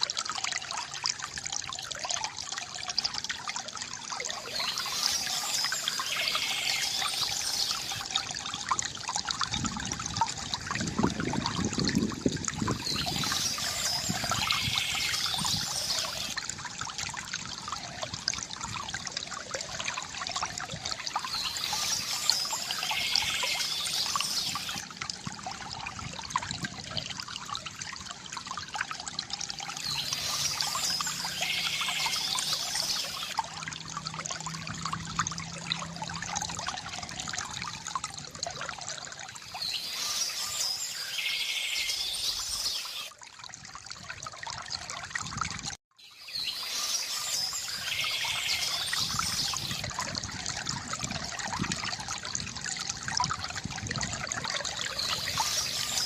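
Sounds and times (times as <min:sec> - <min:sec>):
bamboo fountain water trickling: 0:00.0 - 0:56.0.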